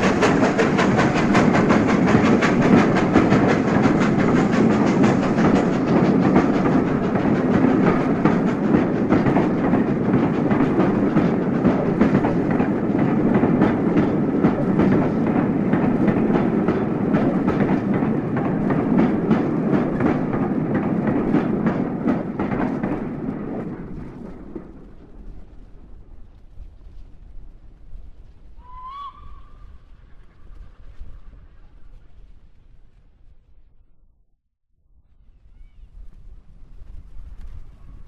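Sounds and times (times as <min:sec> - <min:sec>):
train wheels clickety-clack: 0:00.0 - 0:33.0.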